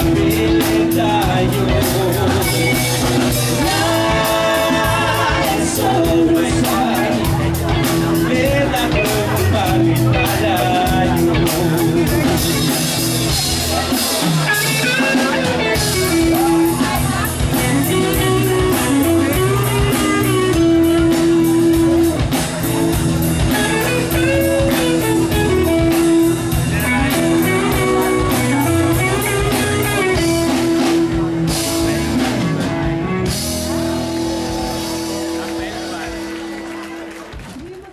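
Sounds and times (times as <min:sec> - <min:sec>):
electric guitar bending notes: 0:00.0 - 0:37.2
drum kit beat: 0:00.0 - 0:37.9.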